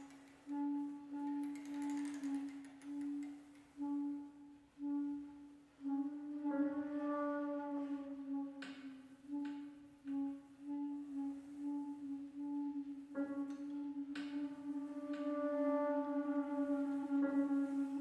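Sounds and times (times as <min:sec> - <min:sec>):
low flute note pulsing: 0:00.0 - 0:18.0.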